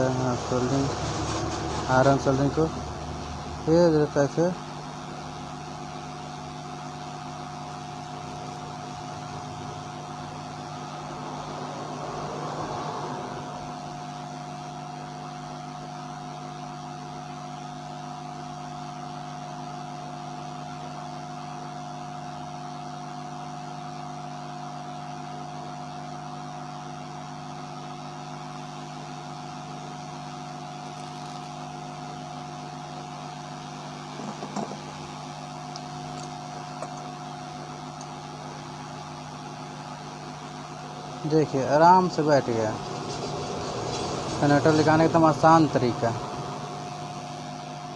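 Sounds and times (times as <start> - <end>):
machine hum with whine: 0.0 - 47.9.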